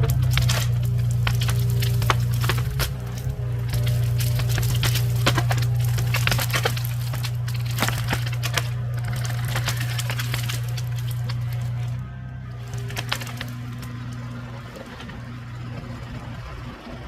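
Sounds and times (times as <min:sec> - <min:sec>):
wood cracking and snapping: 0:00.0 - 0:15.8
low engine drone: 0:00.0 - 0:17.0.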